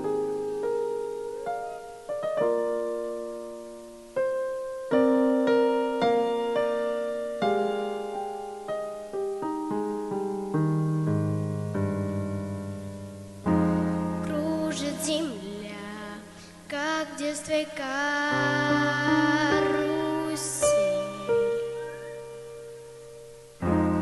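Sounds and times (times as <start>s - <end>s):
slow piano notes and chords: 0.0s - 24.0s.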